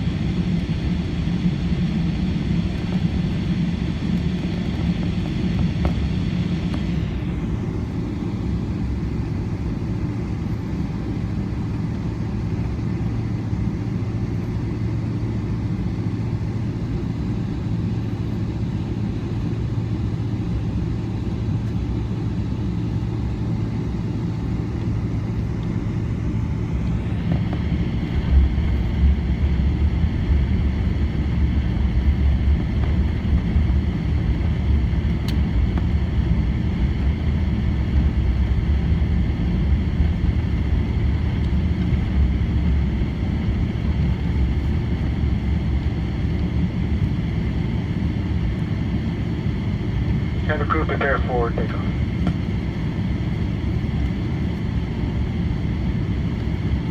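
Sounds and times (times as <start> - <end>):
high engine whine: 0.0 - 56.9
jet engines rumbling: 0.0 - 56.9.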